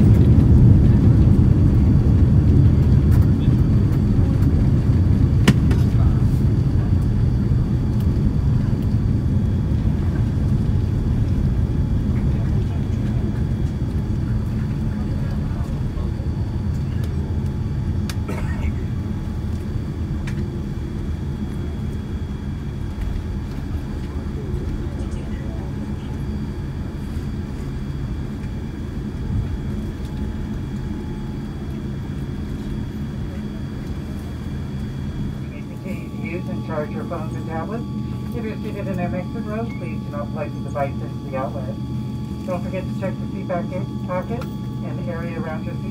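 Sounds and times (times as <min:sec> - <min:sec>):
airplane cabin low rumble: 0:00.0 - 0:45.9.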